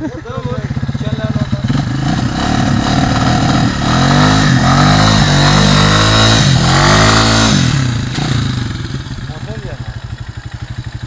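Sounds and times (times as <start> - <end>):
off-road engine revving hard: 0.5 - 9.7.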